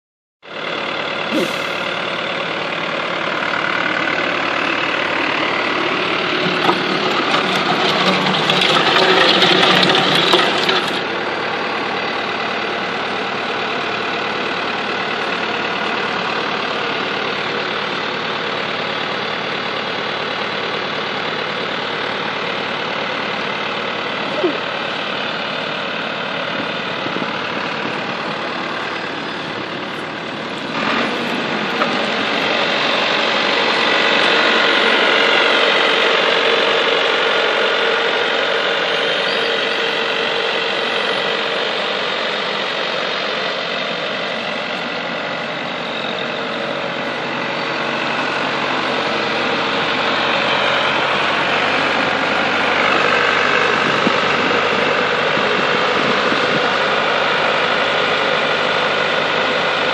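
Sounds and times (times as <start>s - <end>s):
diesel engine running: 0.4s - 59.9s.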